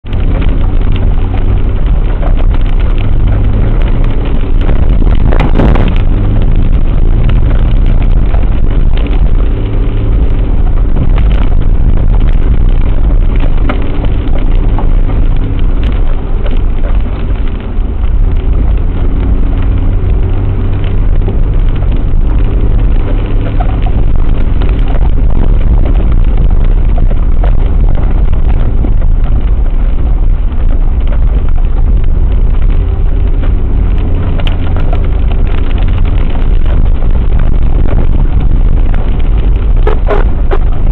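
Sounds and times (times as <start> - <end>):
vehicle engine at low speed: 0.0 - 40.9
vehicle jolt: 0.0 - 40.9.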